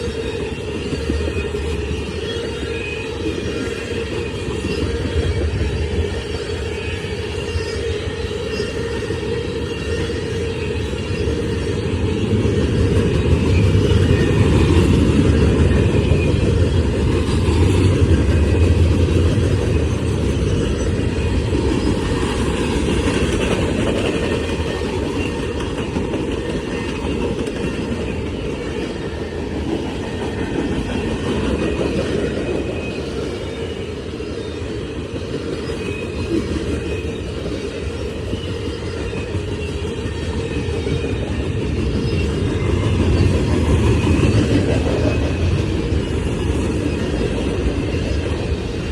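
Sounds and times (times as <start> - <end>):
freight train rolling past: 0.0 - 48.9.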